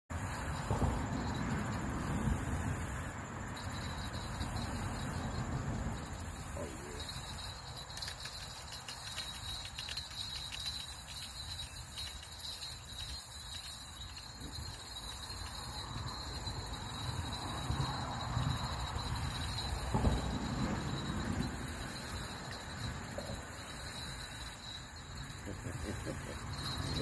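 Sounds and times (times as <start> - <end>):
insects trilling: 0.1 - 27.0
low outdoor rumble: 0.2 - 10.7, 13.9 - 27.0.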